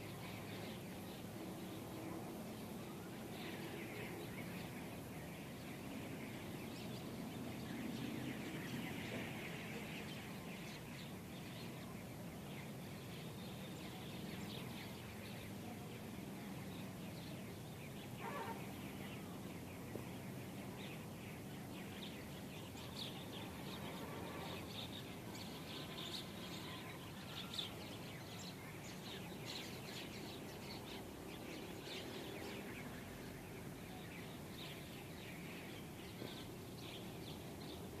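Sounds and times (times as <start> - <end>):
small birds chirping: 0.0 - 38.0
steady background hiss: 0.0 - 38.0.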